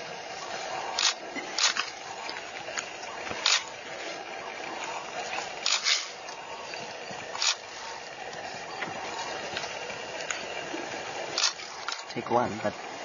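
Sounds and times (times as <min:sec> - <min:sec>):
steady background hiss: 0:00.0 - 0:13.0
porcupine rattling quills: 0:00.5 - 0:12.4.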